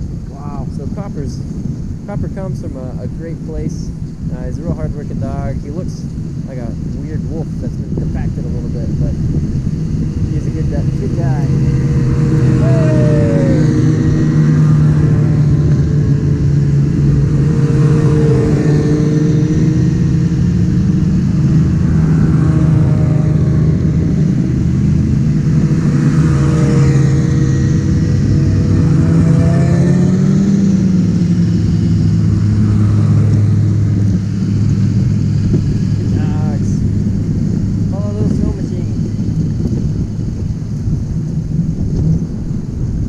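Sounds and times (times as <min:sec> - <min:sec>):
engine running steadily: 0:00.0 - 0:43.0.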